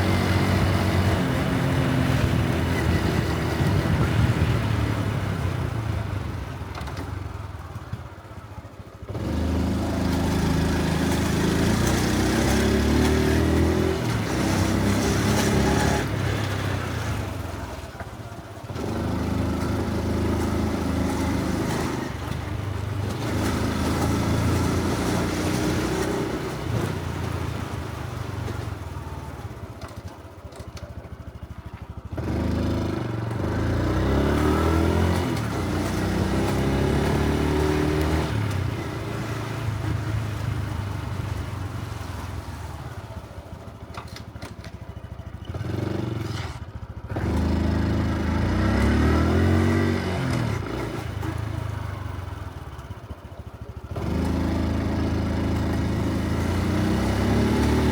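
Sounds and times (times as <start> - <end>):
motorcycle engine and exhaust: 0.0 - 57.9.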